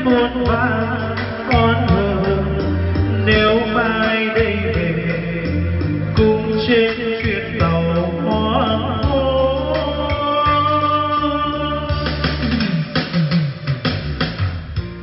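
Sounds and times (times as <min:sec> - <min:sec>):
man singing karaoke: 0:00.0 - 0:13.5
backing track with bass and guitar: 0:00.0 - 0:15.0.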